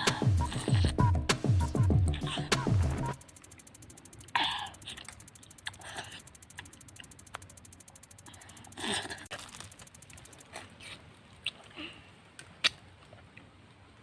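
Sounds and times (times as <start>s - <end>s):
people eating fruit: 0.0s - 7.6s, 8.2s - 13.5s.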